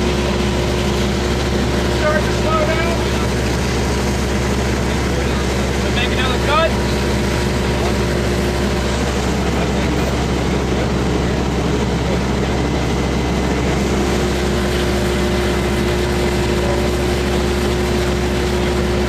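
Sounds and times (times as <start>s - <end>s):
large engine running steadily: 0.0s - 19.0s.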